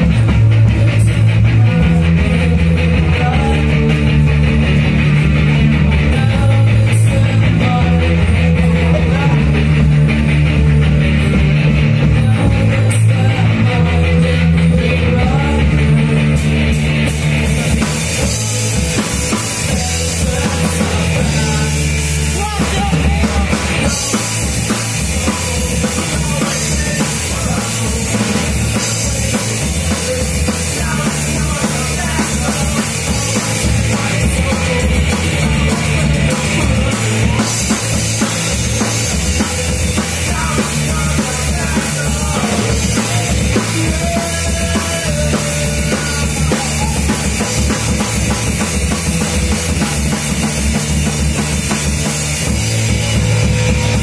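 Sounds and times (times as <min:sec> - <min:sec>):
bass guitar: 0:00.0 - 0:54.0
drums and cymbals: 0:00.0 - 0:54.0
electric guitar: 0:00.0 - 0:54.0.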